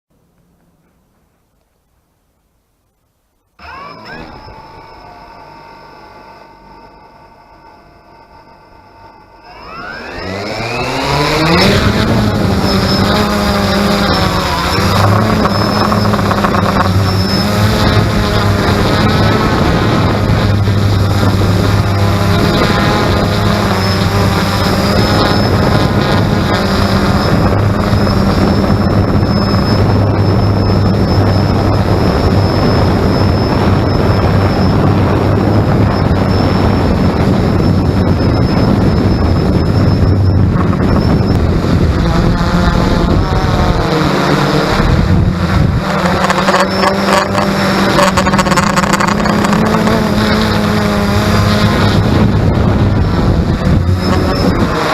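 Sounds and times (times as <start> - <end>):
drone propellers buzzing hum: 3.5 - 54.9.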